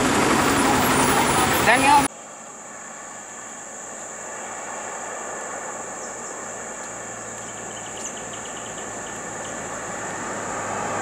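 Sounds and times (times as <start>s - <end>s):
insects droning: 0.4s - 11.0s.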